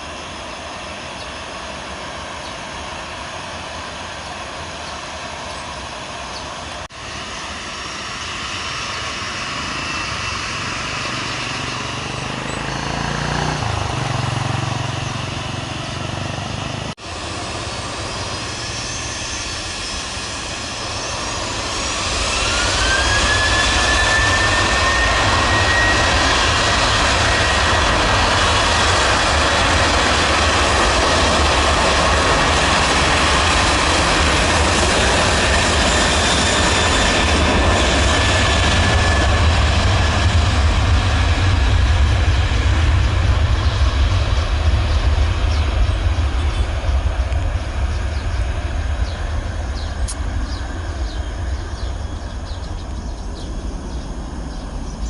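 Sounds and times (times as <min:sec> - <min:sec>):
jet engines at high power: 0:00.0 - 0:55.0.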